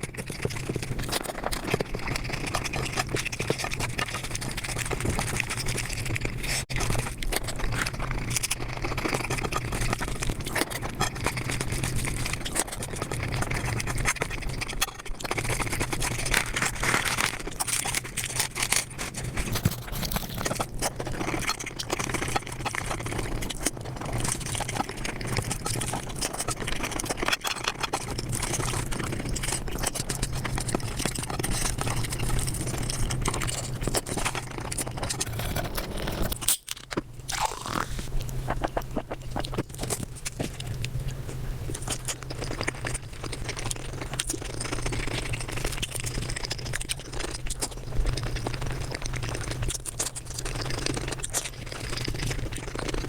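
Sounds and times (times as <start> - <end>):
sped-up chewing and crunching: 0.0 - 53.0.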